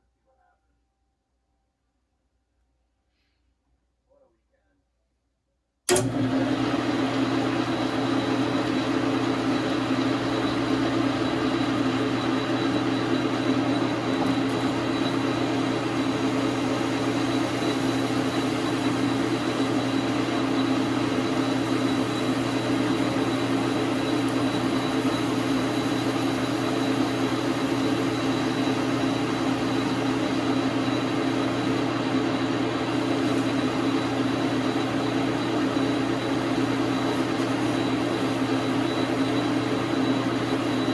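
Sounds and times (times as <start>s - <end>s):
lathe motor and gear drone: 5.9s - 40.9s.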